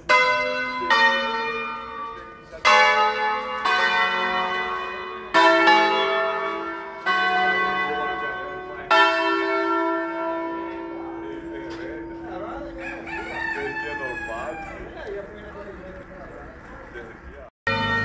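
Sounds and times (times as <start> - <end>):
church bells ringing: 0.0 - 15.8, 17.7 - 18.0.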